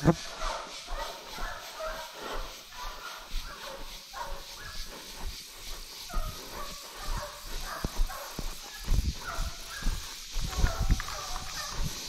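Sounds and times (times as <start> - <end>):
dog barking: 0.3 - 5.0, 6.1 - 12.0.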